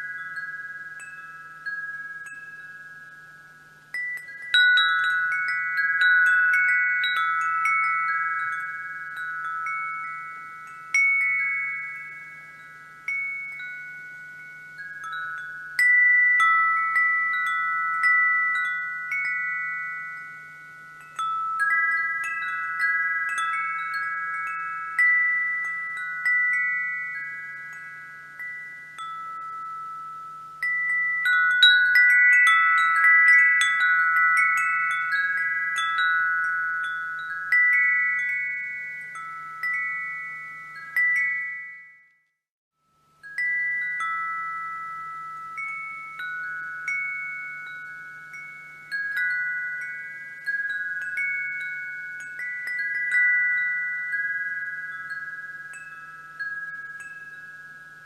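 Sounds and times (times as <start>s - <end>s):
wind chimes ringing: 0.0s - 58.0s.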